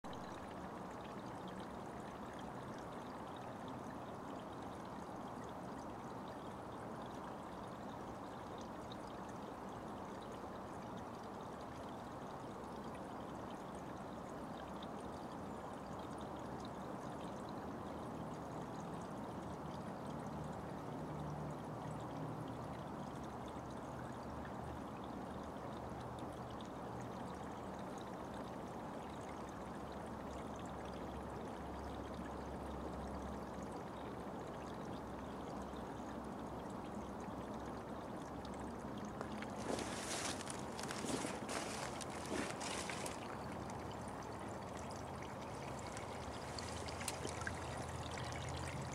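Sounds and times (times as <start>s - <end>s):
brook flowing: 0.0s - 48.9s.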